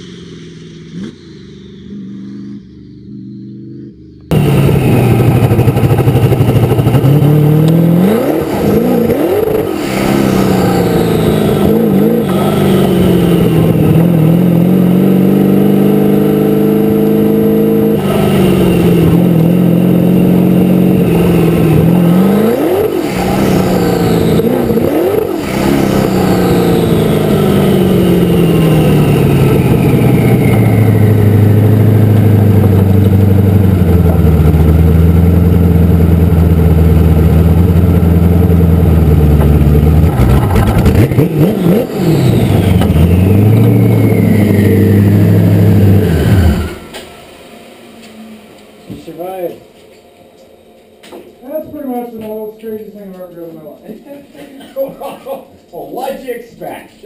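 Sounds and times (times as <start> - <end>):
race car engine revving: 0.0 - 49.8.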